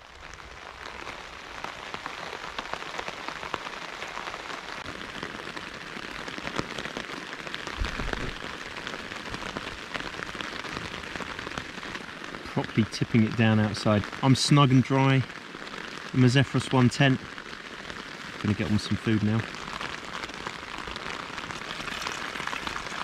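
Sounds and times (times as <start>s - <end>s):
rain pattering on a tent: 0.0s - 23.0s.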